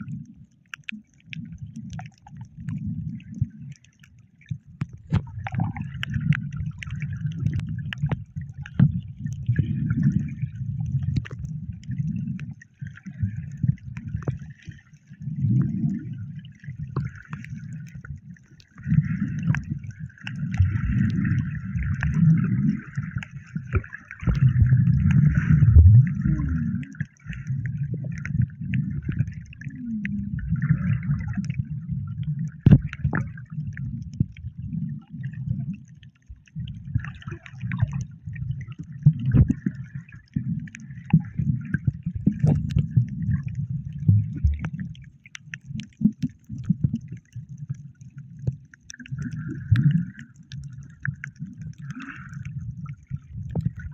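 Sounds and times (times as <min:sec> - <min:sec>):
muffled underwater sloshing: 0:00.0 - 0:53.9.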